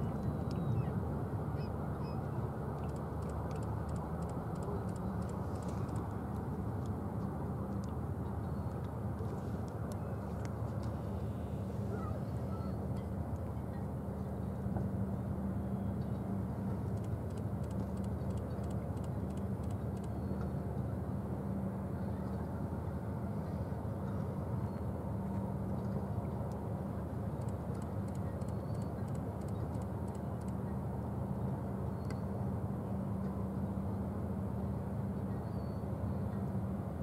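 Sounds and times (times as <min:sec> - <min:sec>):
ship machinery humming and rumbling: 0:00.0 - 0:37.0.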